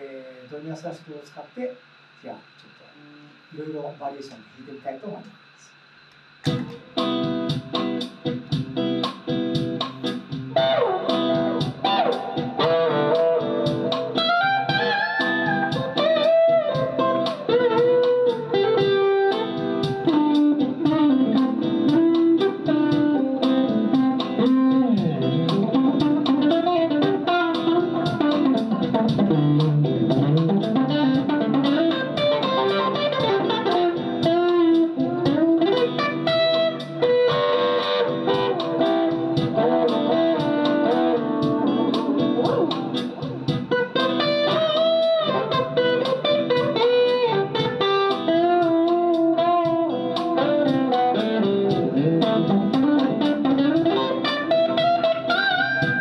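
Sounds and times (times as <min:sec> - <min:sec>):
electric guitar melody: 0:06.4 - 0:56.0.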